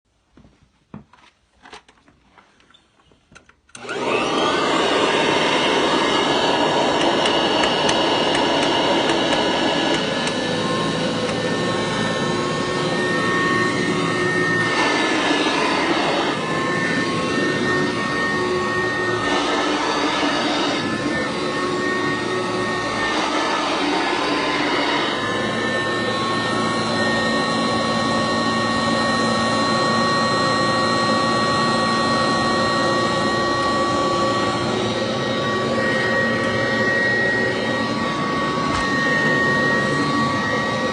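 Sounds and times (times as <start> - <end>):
vacuum cleaner whining: 2.4 - 40.9.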